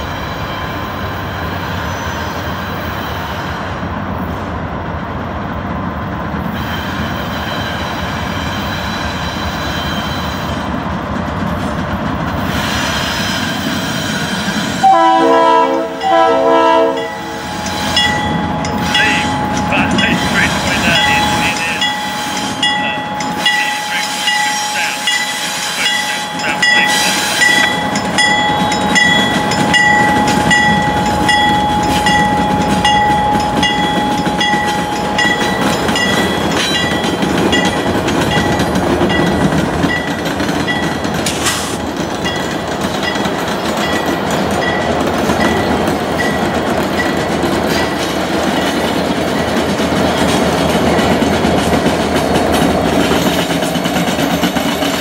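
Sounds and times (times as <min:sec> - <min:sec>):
diesel locomotive engines whining: 0:00.0 - 0:55.0
train wheels clattering on rails: 0:00.0 - 0:55.0.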